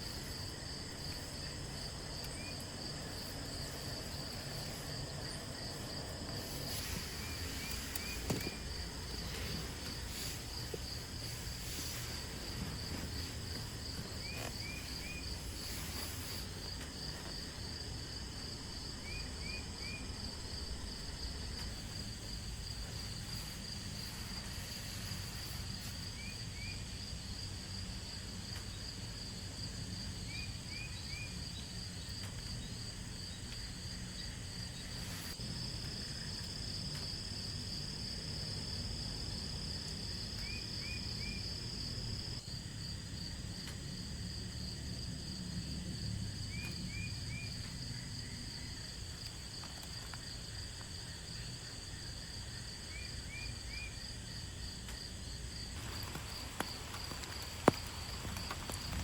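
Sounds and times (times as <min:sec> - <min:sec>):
insects chirping in a high trill: 0:00.0 - 0:59.0.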